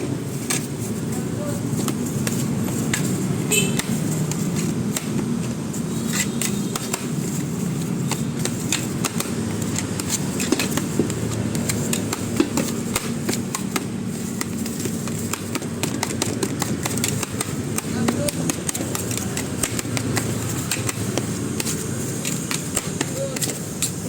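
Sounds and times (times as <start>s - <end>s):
sharp taps and clacks: 0.3s - 24.0s.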